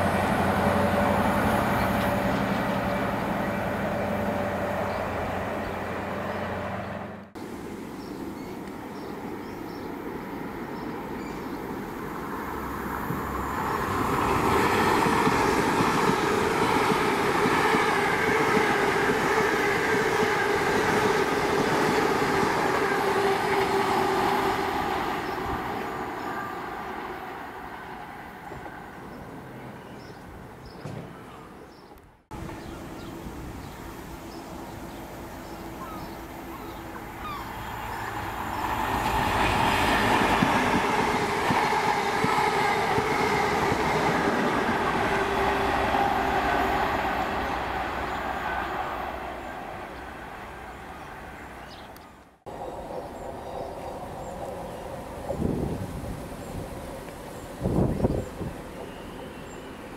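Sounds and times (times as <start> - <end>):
diesel train engine: 0.0 - 31.0, 32.0 - 59.9
train wheel rumble: 0.0 - 31.1, 32.3 - 51.6, 52.3 - 59.9.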